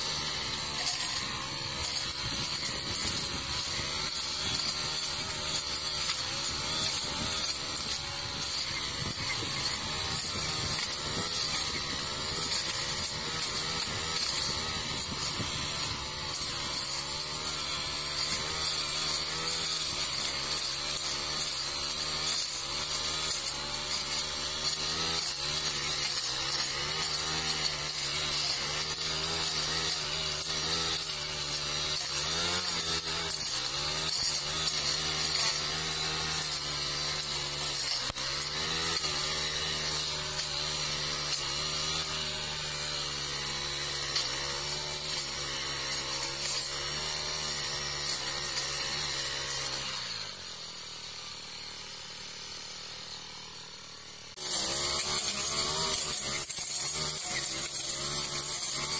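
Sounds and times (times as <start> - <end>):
blade cutting through brush: 0.0 - 58.9
brush cutter engine under load: 0.0 - 58.9.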